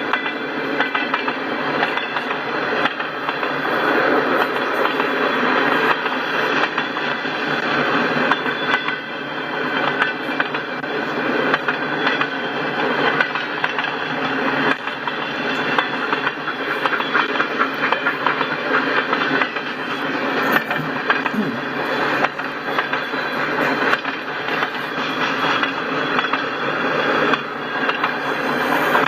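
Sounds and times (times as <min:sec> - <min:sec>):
steel wheels rumbling on rail: 0:00.0 - 0:29.0
wheels clanking over rail joints: 0:00.0 - 0:29.0.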